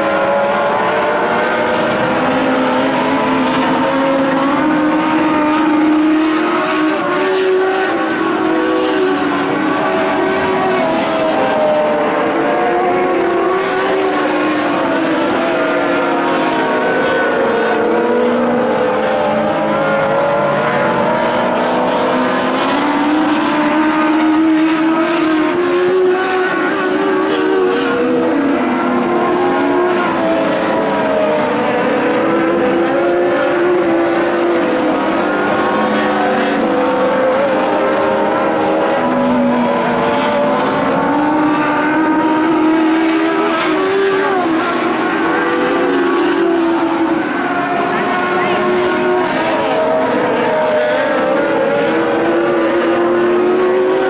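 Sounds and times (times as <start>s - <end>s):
race car engines running hard: 0.0s - 54.0s.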